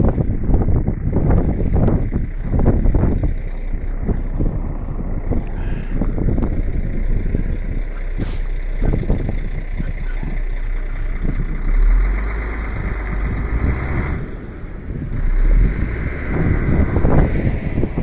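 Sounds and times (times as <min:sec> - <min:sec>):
heavy truck engine rumbling: 0:00.0 - 0:18.0
wind noise on microphone: 0:00.0 - 0:18.0.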